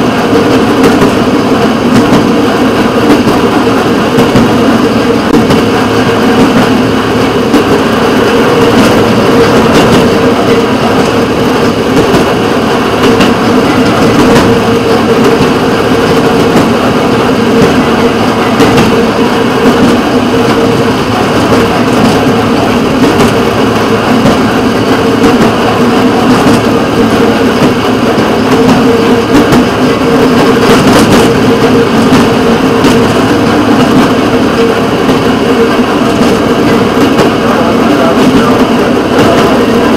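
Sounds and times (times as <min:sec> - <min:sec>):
rail motorcar engine running: 0:00.0 - 0:39.9.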